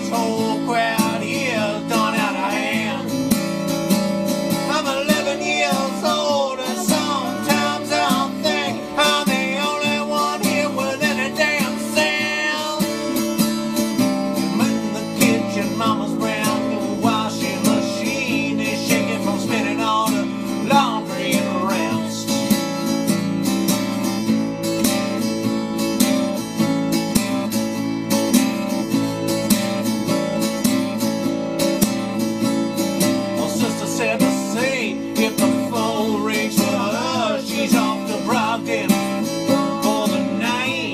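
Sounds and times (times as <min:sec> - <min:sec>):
strummed acoustic guitar: 0:00.0 - 0:40.9.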